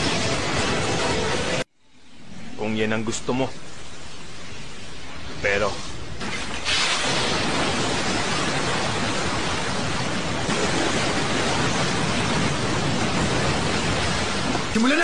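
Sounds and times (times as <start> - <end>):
rushing wind and debris: 2.5 - 15.0.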